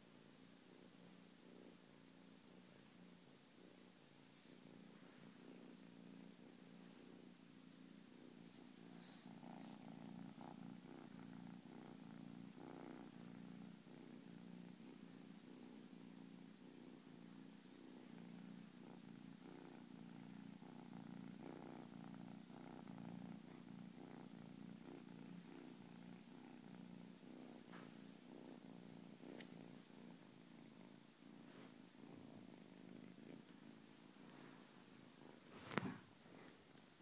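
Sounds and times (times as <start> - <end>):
kitten purring: 0.0 - 37.0.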